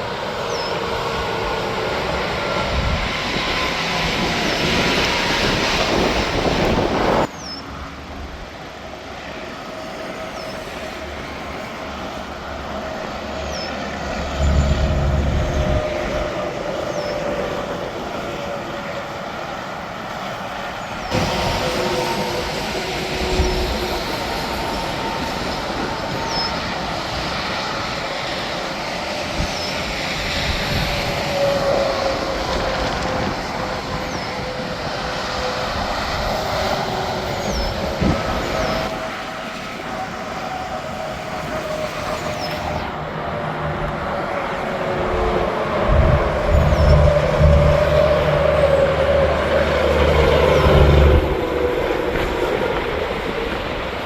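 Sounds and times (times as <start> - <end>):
highway traffic passing: 0.0 - 54.0.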